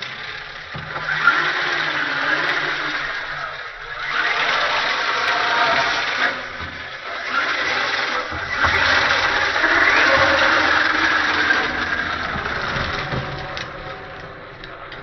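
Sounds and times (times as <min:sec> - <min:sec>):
rc car motor and tyres: 0:00.0 - 0:15.0.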